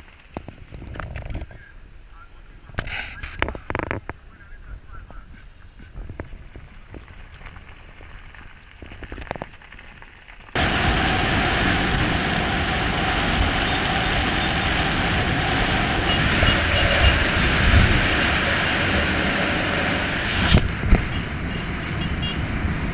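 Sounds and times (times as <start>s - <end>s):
wind rush and road noise: 0.0s - 22.9s
wind buffeting microphone: 2.6s - 9.5s, 10.5s - 22.9s.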